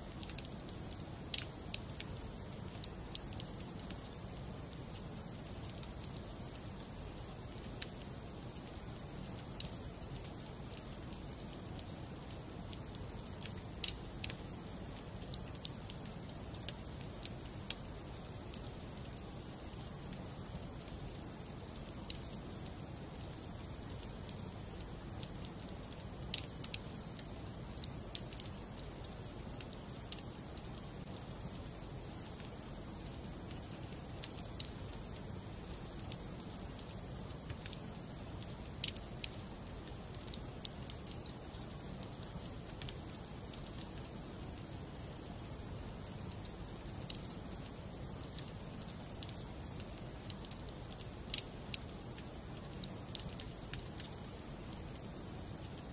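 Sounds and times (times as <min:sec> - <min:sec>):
burning logs crackling and popping: 0:00.0 - 0:55.9
fire flames rumbling and hissing: 0:00.0 - 0:55.9.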